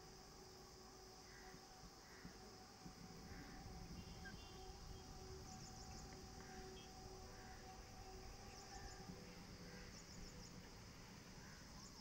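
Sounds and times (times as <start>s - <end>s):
insects chirping in high trills: 0.0s - 12.0s.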